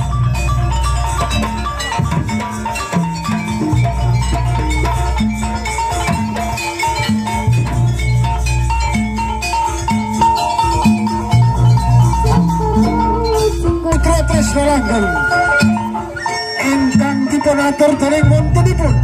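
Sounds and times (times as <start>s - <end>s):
gamelan ensemble playing: 0.0s - 19.0s.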